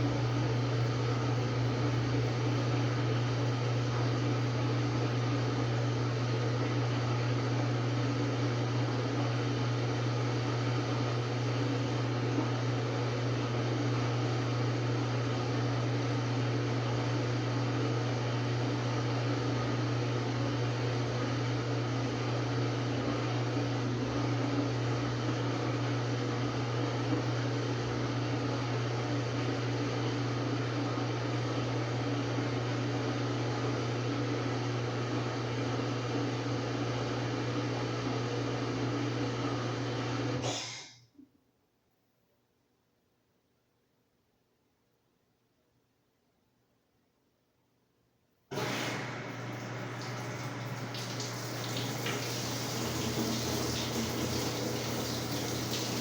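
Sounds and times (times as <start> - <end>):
washing machine humming: 0.0 - 40.8, 48.5 - 56.0.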